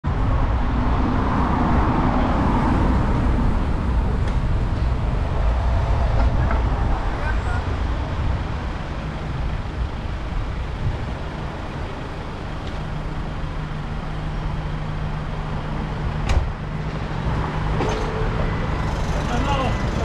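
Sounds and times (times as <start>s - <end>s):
diesel engine hum: 0.0s - 20.0s
road traffic noise: 0.0s - 20.0s.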